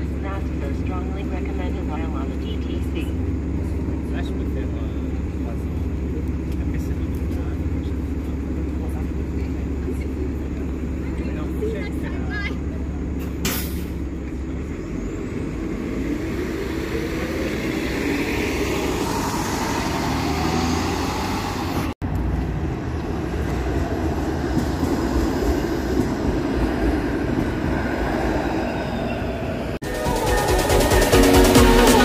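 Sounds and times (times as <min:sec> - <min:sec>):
bus engine running: 0:00.0 - 0:32.0
street noise: 0:00.0 - 0:32.0
streetcar passing with hum: 0:00.0 - 0:32.0.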